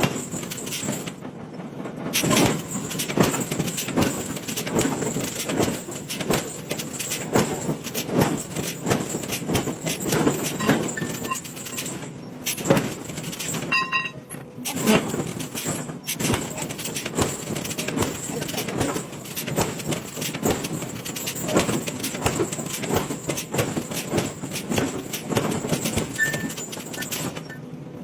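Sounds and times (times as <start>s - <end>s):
metal knocks and clatter: 0.0s - 27.6s.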